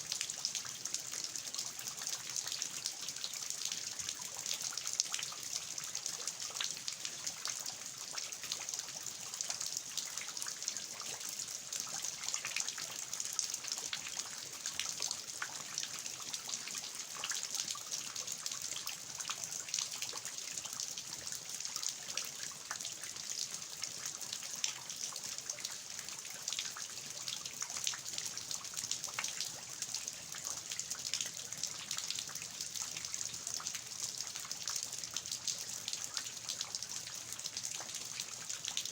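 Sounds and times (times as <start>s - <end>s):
water dripping from eaves: 0.0s - 38.9s.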